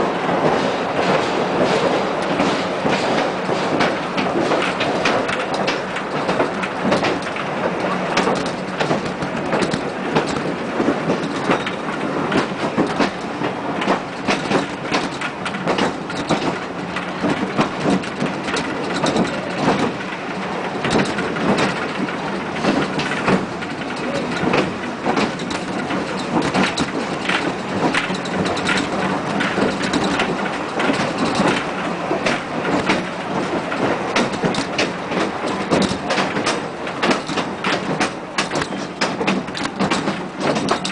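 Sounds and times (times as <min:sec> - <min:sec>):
railway car rattling on track: 0:00.0 - 0:40.9
quick clicks and knocks: 0:00.4 - 0:20.2, 0:20.8 - 0:40.9.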